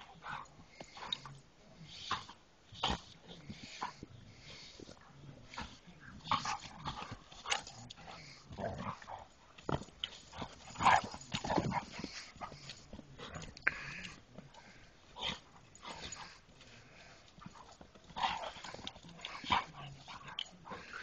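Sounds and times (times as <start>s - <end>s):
dogs play-fighting vocal noises: 1.9s - 21.0s.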